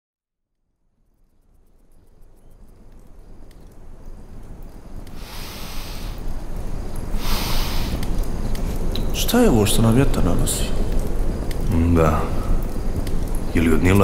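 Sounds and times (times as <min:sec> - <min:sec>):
wind: 0:00.3 - 0:14.0
hissing wind gusts: 0:01.6 - 0:14.0.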